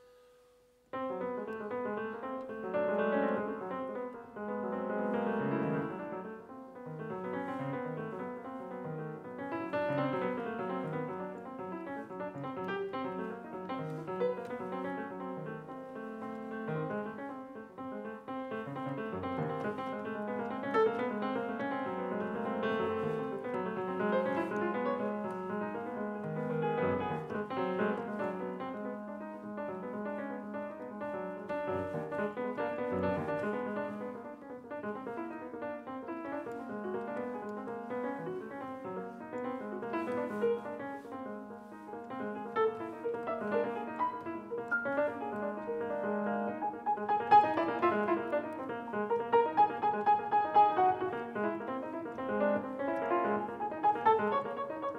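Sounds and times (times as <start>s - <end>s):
solo grand piano: 0.0s - 54.9s.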